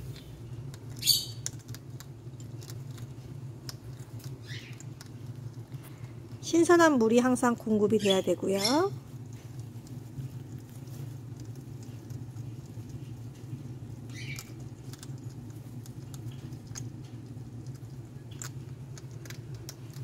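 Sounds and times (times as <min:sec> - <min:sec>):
hedgehog clicks and rustles: 0:00.0 - 0:20.0
steady low hum: 0:00.0 - 0:20.0.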